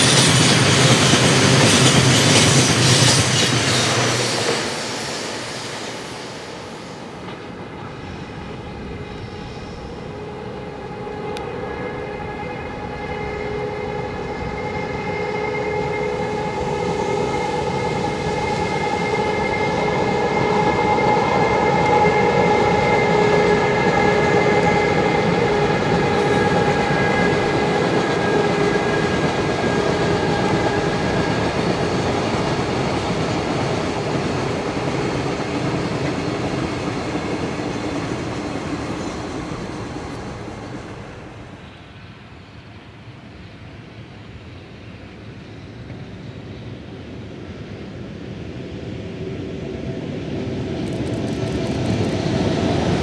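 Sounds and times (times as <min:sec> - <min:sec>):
electric locomotive motor whine: 0:00.0 - 0:53.0.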